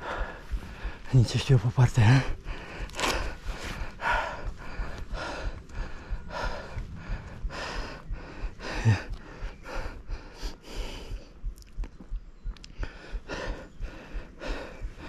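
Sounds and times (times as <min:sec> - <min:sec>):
man breathing hard: 0:00.0 - 0:11.9, 0:12.7 - 0:15.0.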